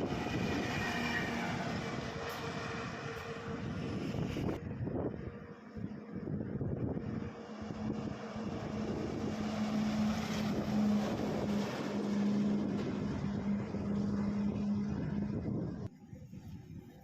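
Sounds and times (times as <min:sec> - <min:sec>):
road and wind noise: 0:00.0 - 0:17.0
truck diesel engine hum: 0:00.0 - 0:17.0.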